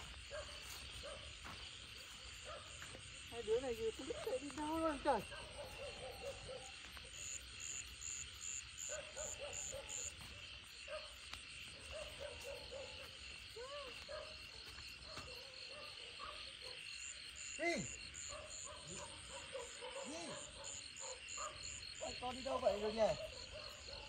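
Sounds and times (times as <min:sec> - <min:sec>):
frogs croaking: 0:00.0 - 0:24.0
insects trilling: 0:00.0 - 0:24.0.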